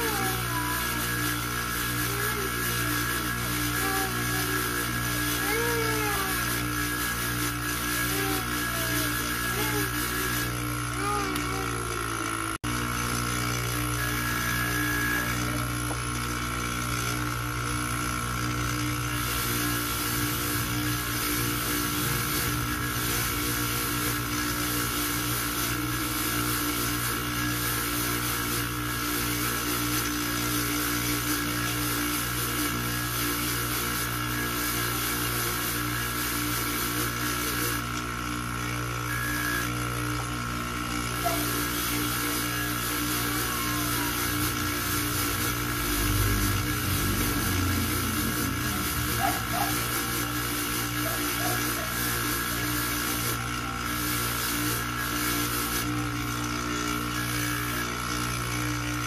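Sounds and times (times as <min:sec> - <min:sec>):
buffing motor humming: 0:00.0 - 0:59.0.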